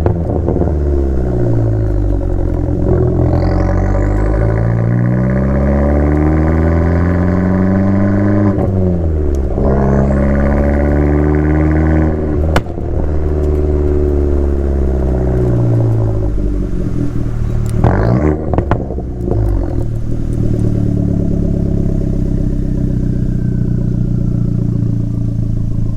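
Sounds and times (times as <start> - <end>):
car engine driving: 0.0 - 25.9
exhaust crackles: 0.0 - 25.9.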